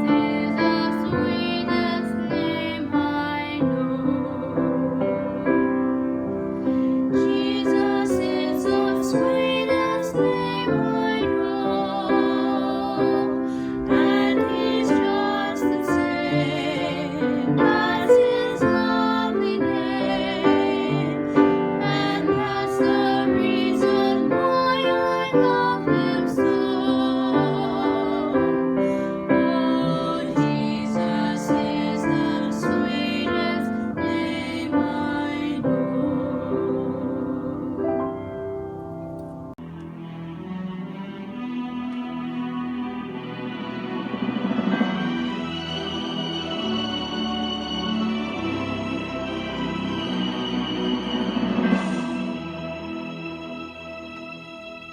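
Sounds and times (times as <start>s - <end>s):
slow gentle piano music: 0.0s - 54.9s.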